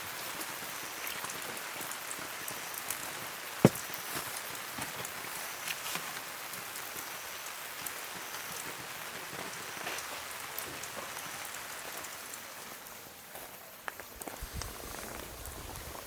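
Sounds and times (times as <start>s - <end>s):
steady rain hiss: 0.0s - 16.0s
raindrops ticking: 0.2s - 16.0s.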